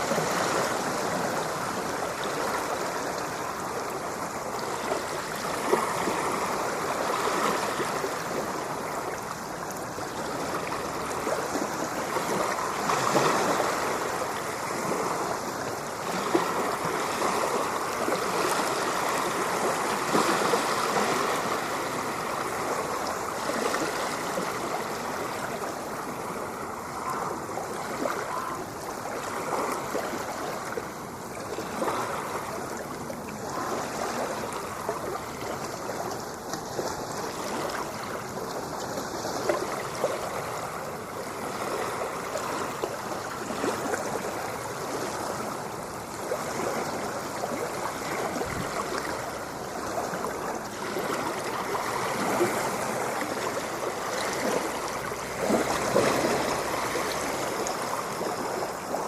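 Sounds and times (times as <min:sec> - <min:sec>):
ocean water washing: 0:00.0 - 0:59.0.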